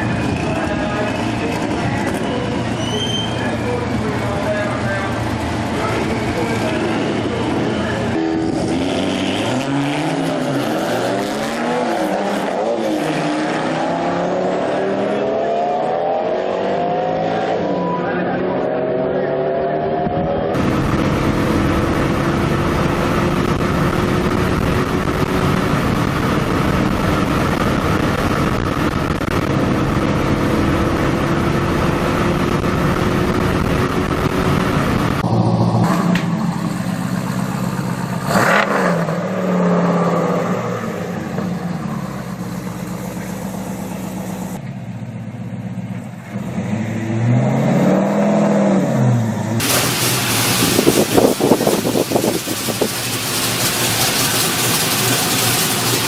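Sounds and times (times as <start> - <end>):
car engine running: 0.0 - 12.5, 20.1 - 46.9, 49.5 - 56.0
engine rev: 0.0 - 56.0.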